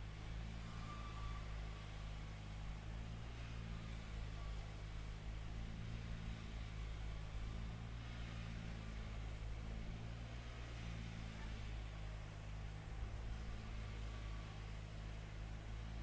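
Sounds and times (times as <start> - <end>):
grader engine running: 0.0 - 16.0.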